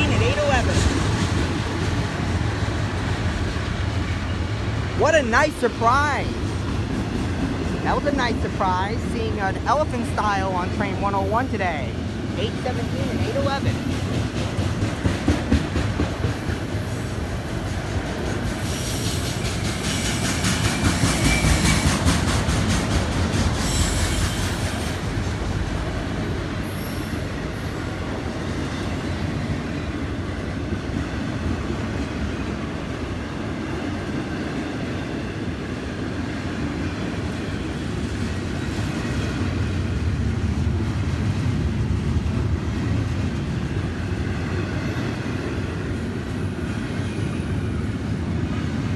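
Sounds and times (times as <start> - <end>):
train wheels clattering on rails: 0.0 - 5.0, 6.4 - 8.1, 12.0 - 48.9.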